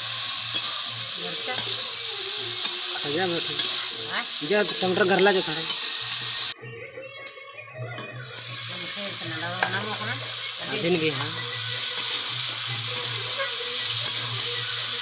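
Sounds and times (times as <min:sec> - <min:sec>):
chicken sizzling in pan: 0:00.0 - 0:06.6, 0:08.0 - 0:15.0.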